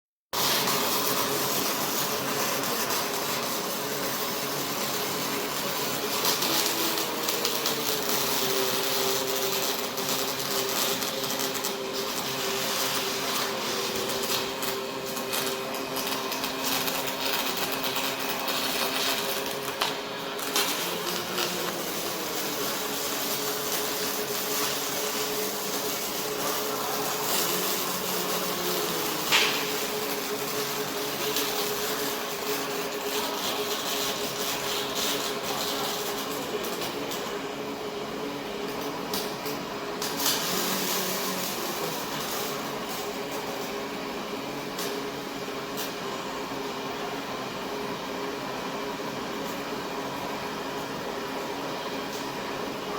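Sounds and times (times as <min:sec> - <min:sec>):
welding hiss and crackle: 0:00.4 - 0:52.9.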